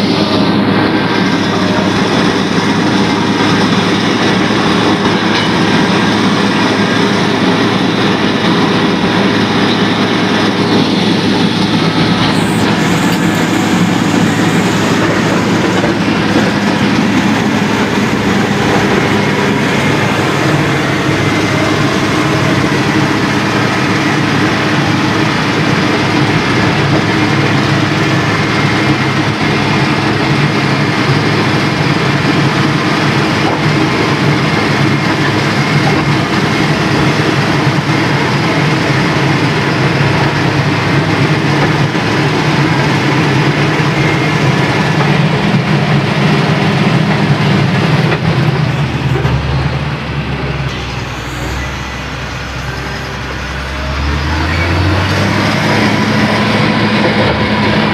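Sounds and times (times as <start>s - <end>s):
heavy diesel machinery rumbling: 0.0s - 57.9s.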